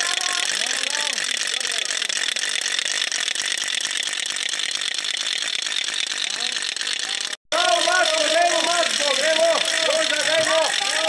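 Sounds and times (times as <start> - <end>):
wooden ratchet rattle clattering: 0.0 - 11.0.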